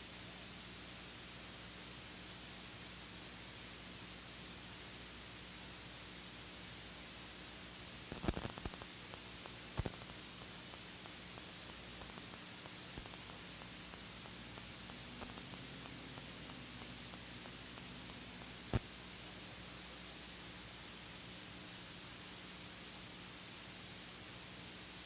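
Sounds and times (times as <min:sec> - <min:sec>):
low electrical hum: 0:00.0 - 0:25.0
recording hiss: 0:00.0 - 0:25.0.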